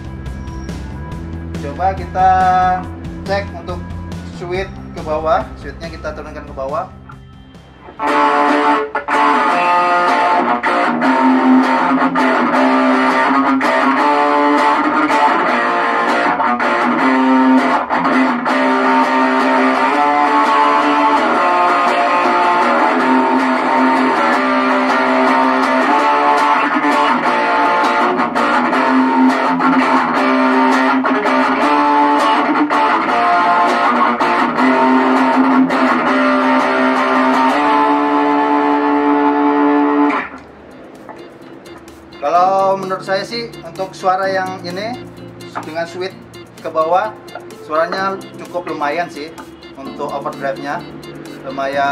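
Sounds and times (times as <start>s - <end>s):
distorted electric guitar riffing: 0.0s - 51.9s.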